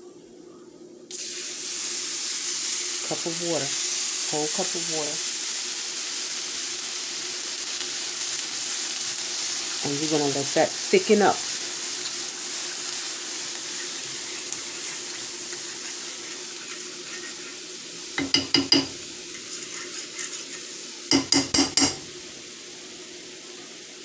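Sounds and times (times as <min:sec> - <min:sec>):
gravy sizzling and bubbling in a skillet: 0:00.0 - 0:24.0.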